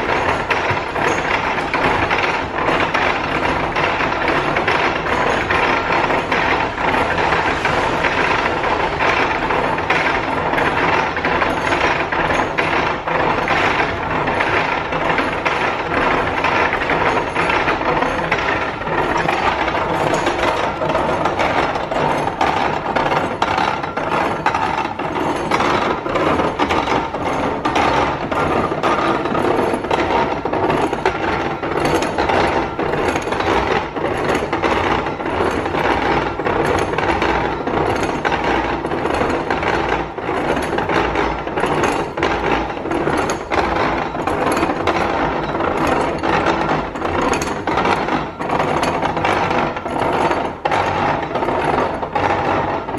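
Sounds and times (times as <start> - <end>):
hand-cranked grinder clattering: 0.0 - 52.9.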